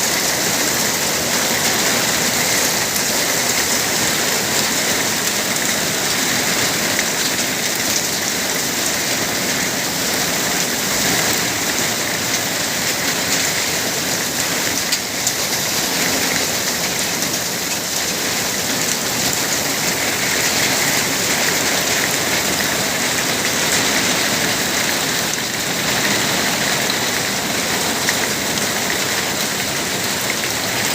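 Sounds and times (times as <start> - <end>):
heavy rain on hard surfaces: 0.0 - 30.9.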